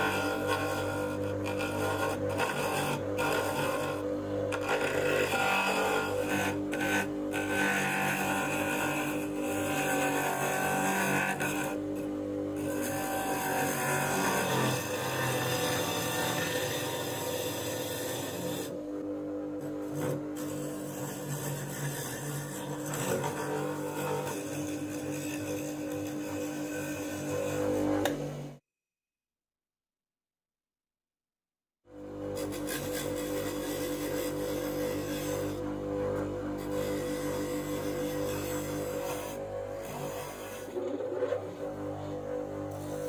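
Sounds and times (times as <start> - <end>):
chisel scraping spinning wheel: 0.0 - 18.8, 19.6 - 28.6, 32.3 - 43.0
bench grinder motor humming: 0.0 - 28.6, 31.9 - 43.0.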